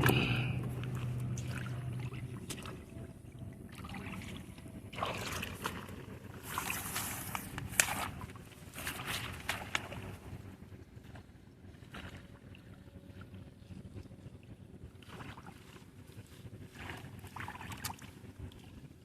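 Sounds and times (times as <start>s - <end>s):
water sloshing and splashing: 0.0s - 19.0s.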